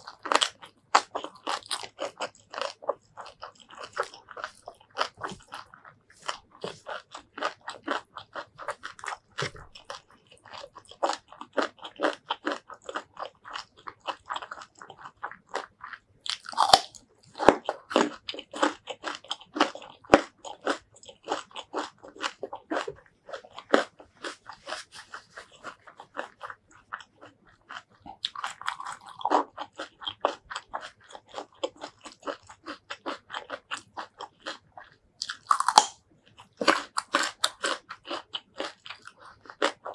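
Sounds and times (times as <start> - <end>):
wet chewing with crunches: 0.0 - 39.9.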